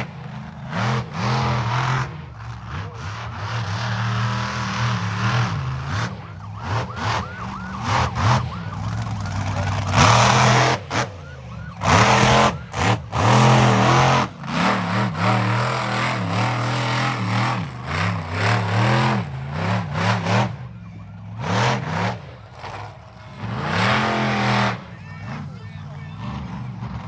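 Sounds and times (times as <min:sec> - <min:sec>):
monster truck engine revving: 0:00.0 - 0:25.6, 0:26.2 - 0:27.0.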